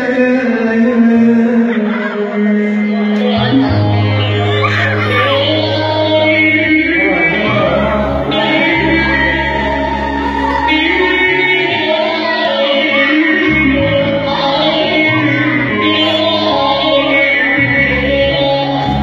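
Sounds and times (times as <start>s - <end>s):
person singing: 0.0s - 19.0s
sustained low bass notes: 3.1s - 19.0s.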